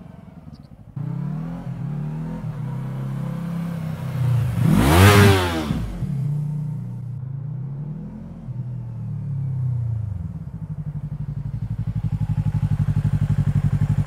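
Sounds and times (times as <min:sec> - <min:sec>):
motorcycle riding past: 0:00.0 - 0:14.0.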